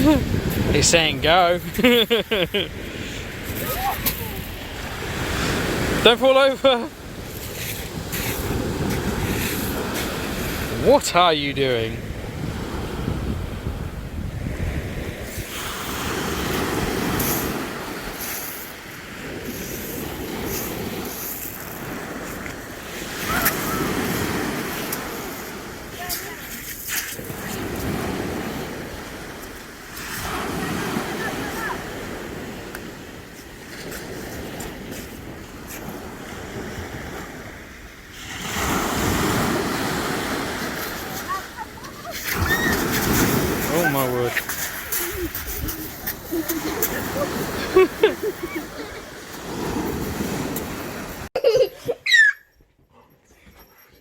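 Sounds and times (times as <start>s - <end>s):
wind rumbling on microphone: 0.0s - 6.1s, 6.9s - 51.3s
waves on shingle beach: 0.0s - 51.4s.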